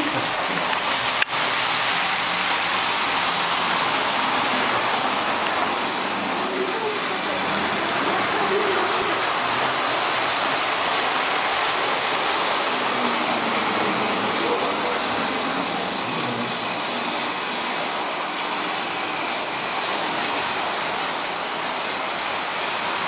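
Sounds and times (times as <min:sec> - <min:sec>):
toy trains whirring on metal rails: 0:00.0 - 0:23.0.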